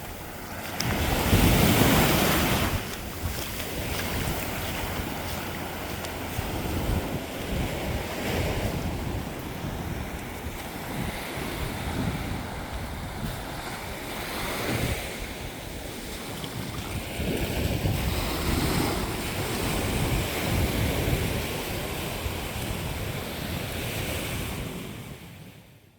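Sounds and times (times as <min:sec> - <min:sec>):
wind buffeting microphone: 0:00.0 - 0:25.7
ocean waves washing onto beach: 0:00.0 - 0:25.9.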